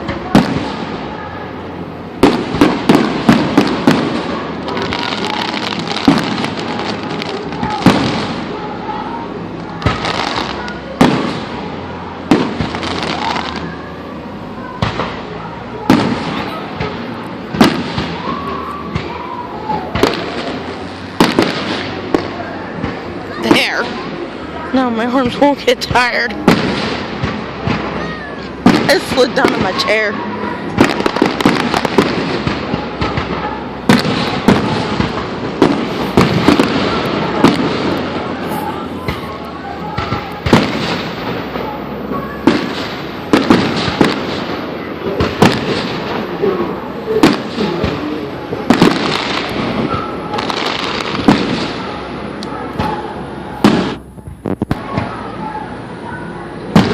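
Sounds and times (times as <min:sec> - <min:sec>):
fireworks booming and crackling: 0:00.0 - 0:56.9.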